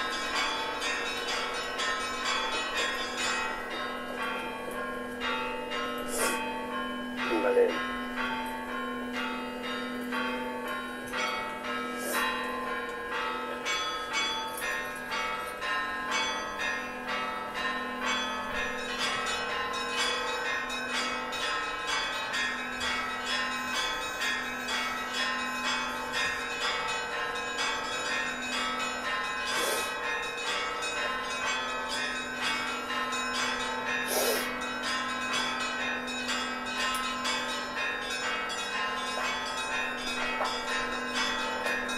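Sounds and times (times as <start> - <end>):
church bells ringing: 0.0 - 41.9
steady low bell tone: 0.0 - 41.9.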